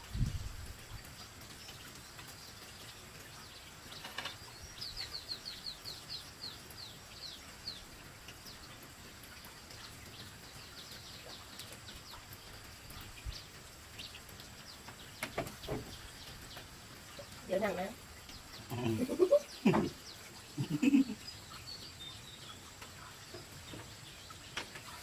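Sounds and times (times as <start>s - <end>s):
small bird chirping: 1.5s - 25.0s.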